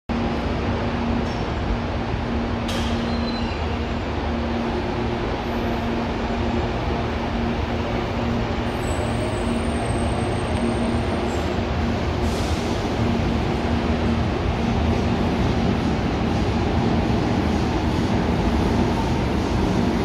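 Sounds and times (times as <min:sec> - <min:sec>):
electric train rumbling: 0:00.1 - 0:20.0.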